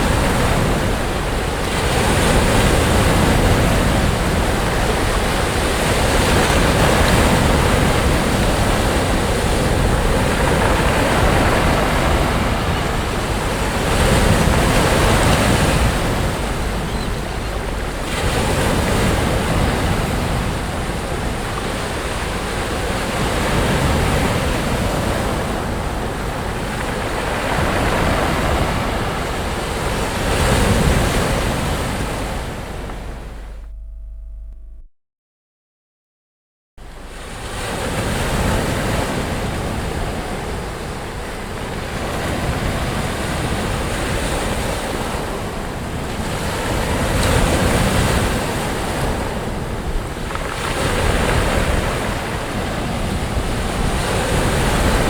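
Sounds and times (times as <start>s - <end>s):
waves breaking on a beach: 0.0s - 33.5s, 36.9s - 55.0s.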